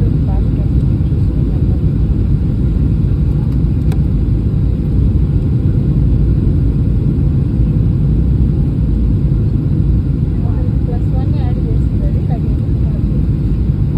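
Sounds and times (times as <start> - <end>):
airliner engine and airflow rumble: 0.0 - 13.9.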